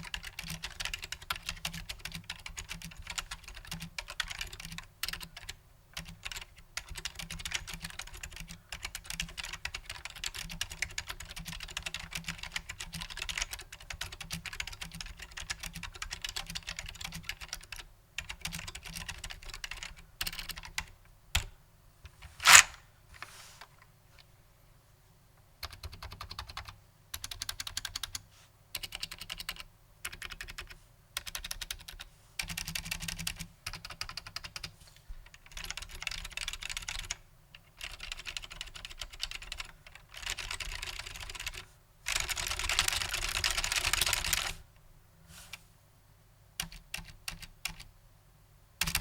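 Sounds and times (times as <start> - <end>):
mechanical keyboard typing: 0.0 - 20.8, 22.4 - 22.8, 25.6 - 28.2, 28.8 - 34.7, 35.5 - 37.2, 37.8 - 44.6, 46.6 - 47.9.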